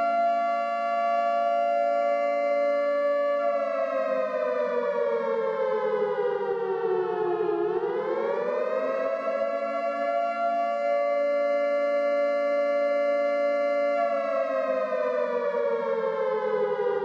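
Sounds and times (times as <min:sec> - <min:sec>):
emergency siren chord: 0:00.0 - 0:17.0.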